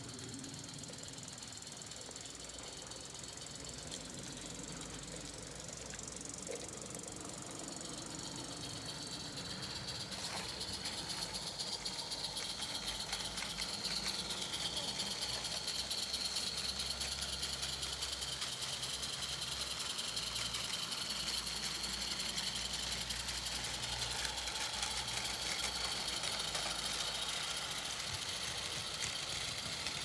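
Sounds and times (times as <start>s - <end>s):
steady high steam hiss: 0.0s - 30.0s
steam locomotive chuffing: 0.0s - 30.0s.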